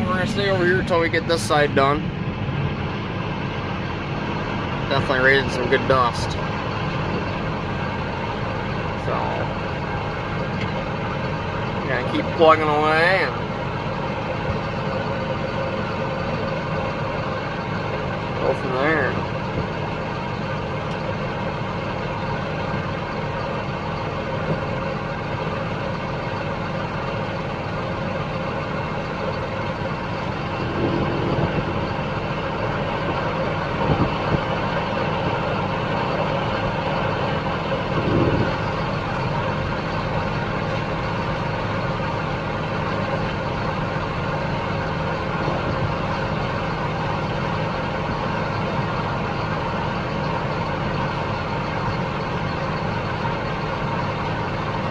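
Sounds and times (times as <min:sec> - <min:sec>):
diesel machinery engine drone: 0:00.0 - 0:54.9.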